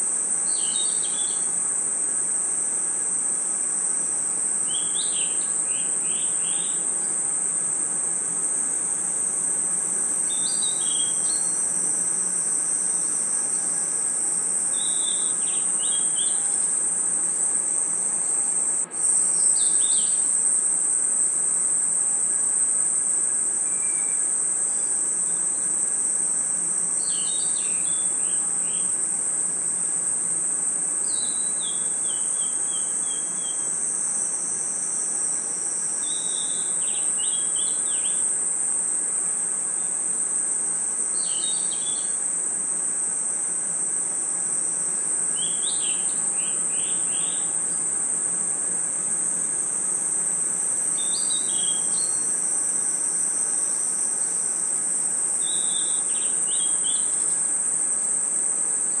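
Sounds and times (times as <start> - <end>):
crickets trilling: 0.0 - 59.0
insect chirping calls: 0.0 - 59.0.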